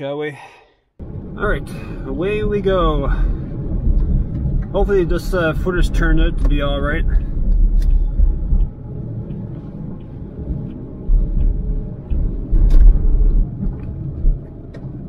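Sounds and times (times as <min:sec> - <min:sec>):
car interior rumble on wet road: 0:01.0 - 0:15.0.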